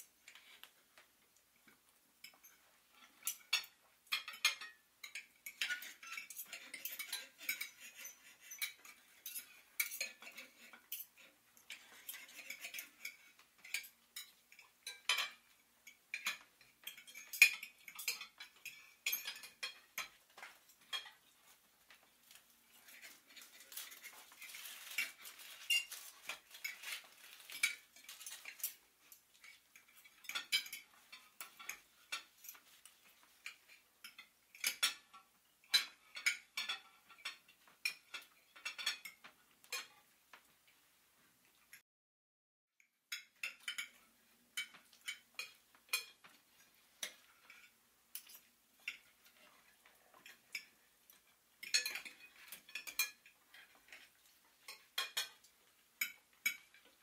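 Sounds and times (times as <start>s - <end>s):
cutlery and dishes clinking: 0.0s - 40.8s, 43.1s - 57.0s
light scraping of cutlery: 0.0s - 41.8s, 42.8s - 57.0s.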